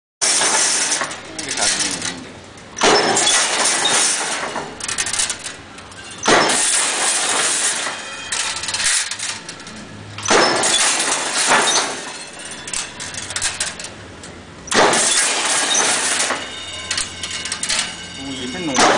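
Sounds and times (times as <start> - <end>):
weaving machine clatter: 0.2 - 14.0, 14.7 - 18.9
quiet machine rattling: 0.4 - 18.9.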